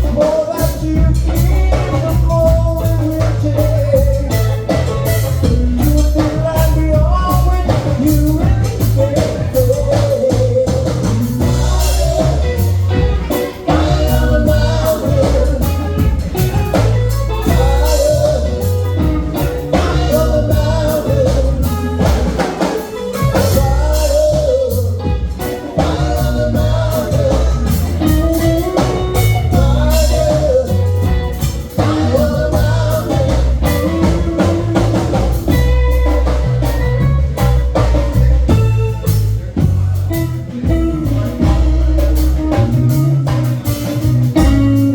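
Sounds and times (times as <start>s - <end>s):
drum kit: 0.0s - 44.9s
live rock band playing: 0.0s - 44.9s
wavering melodic lead line: 0.0s - 44.9s.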